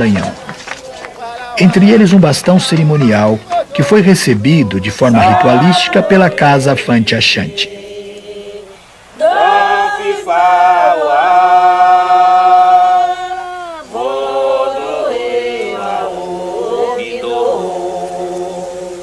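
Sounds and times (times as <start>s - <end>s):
person singing ritual chant: 0.0s - 19.0s.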